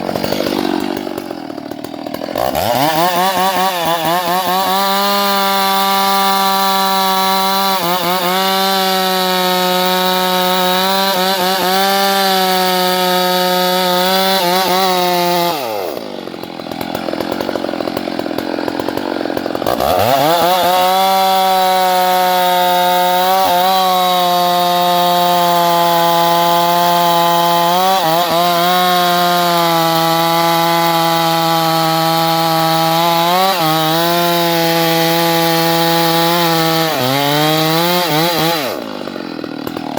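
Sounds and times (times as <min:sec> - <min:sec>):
chainsaw cutting into tree: 0:00.0 - 0:39.9.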